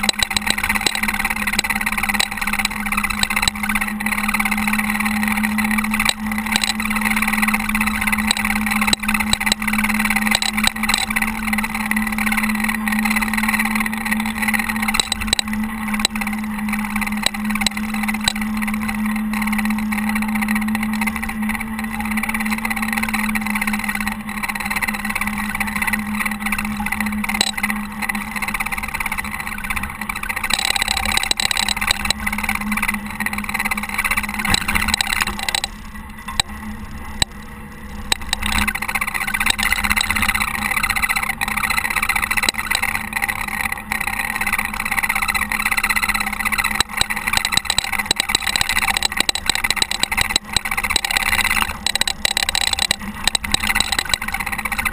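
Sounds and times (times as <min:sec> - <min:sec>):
diesel engine running: 0:00.0 - 0:54.9
faint clicks: 0:00.0 - 0:54.9.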